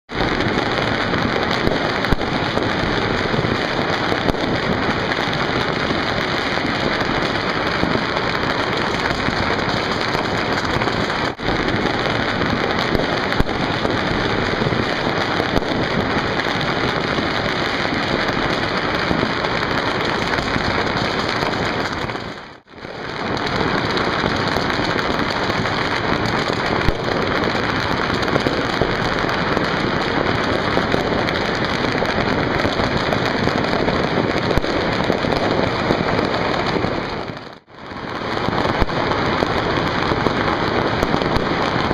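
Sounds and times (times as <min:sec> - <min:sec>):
loud firework bangs: 0:00.0 - 0:41.9
firecrackers crackling: 0:00.1 - 0:41.9.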